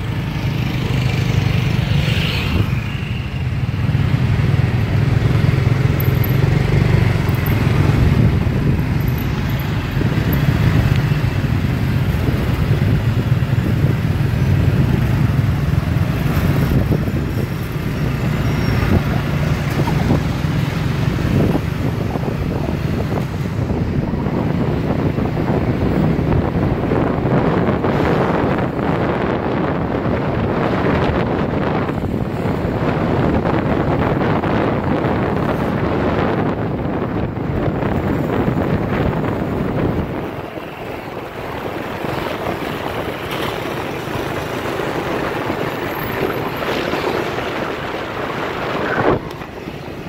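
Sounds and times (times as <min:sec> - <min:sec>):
road traffic: 0:00.0 - 0:50.0.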